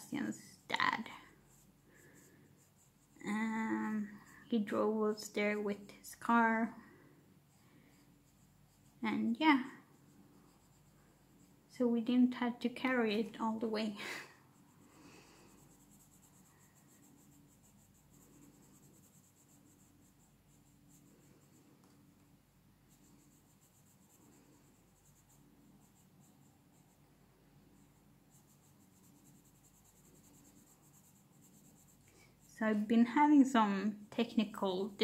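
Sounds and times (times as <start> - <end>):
pencil scratching on paper: 0.0 - 6.7, 7.7 - 11.7, 14.4 - 22.0, 22.8 - 27.1, 27.8 - 33.4.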